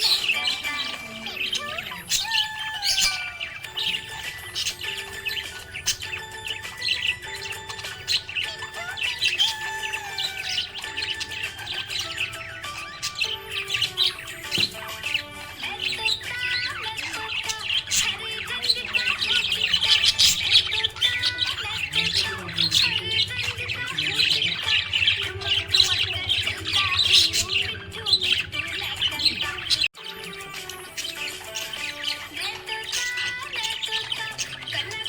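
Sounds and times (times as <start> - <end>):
budgerigars chirping: 0.0 - 35.0
harsh bird squawks: 0.0 - 35.0.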